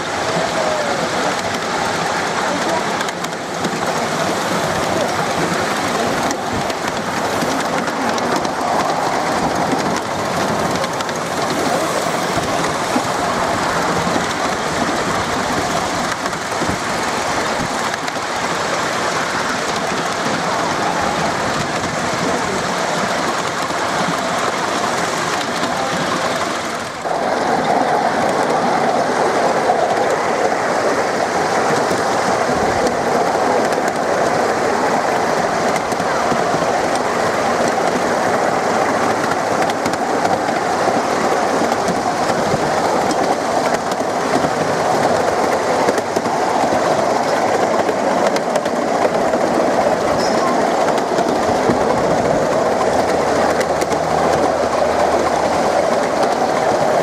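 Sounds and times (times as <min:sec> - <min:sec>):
small train wheels clattering on rail: 0:00.0 - 0:57.0.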